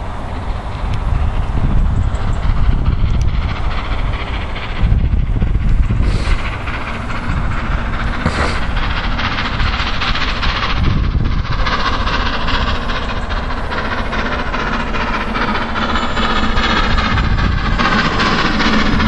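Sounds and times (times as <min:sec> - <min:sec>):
low rumble: 0:00.0 - 0:19.0
steam locomotive exhaust beats: 0:00.0 - 0:19.0.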